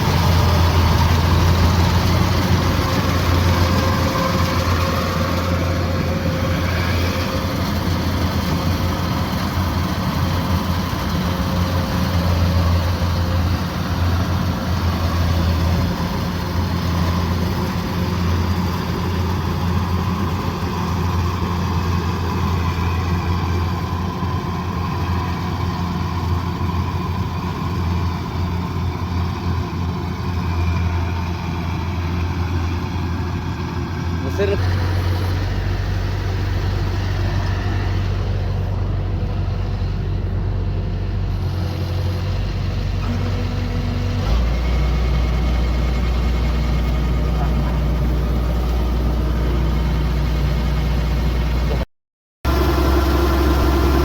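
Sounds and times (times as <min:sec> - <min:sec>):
combine harvester engine droning: 0:00.0 - 0:51.9, 0:52.5 - 0:54.0.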